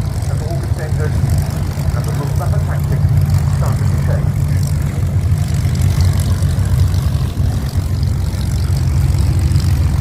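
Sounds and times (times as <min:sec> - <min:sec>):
piston aircraft engines rumbling: 0:00.0 - 0:10.0.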